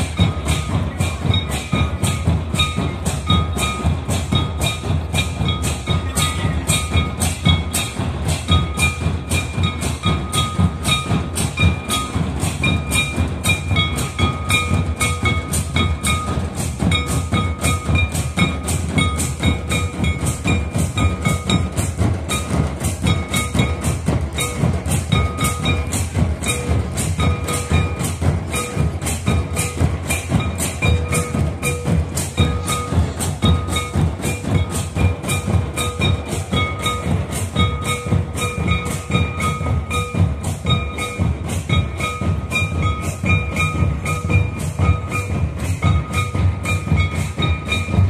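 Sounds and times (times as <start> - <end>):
barrel drums playing fast beat: 0.0 - 48.0.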